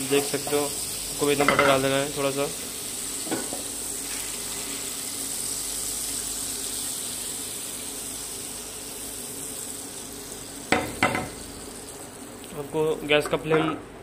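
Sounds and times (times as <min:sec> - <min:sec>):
butter sizzling in a frying pan: 0:00.0 - 0:12.6.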